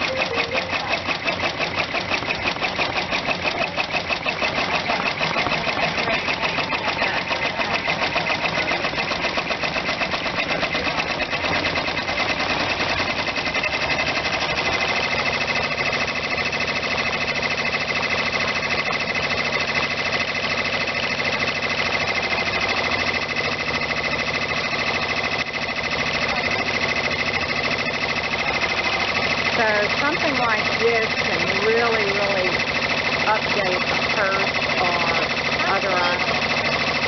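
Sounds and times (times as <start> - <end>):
embroidery machine stitching: 0.0 - 37.0.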